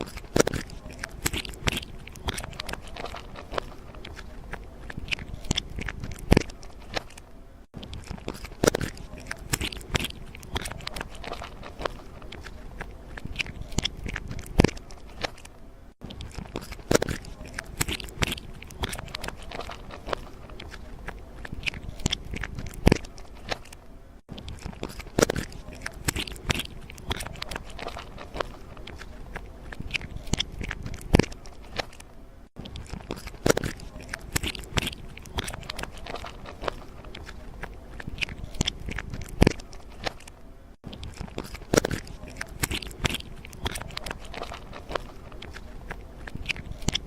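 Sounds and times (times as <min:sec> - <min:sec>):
crunching crackling clicks: 0:00.0 - 0:47.0.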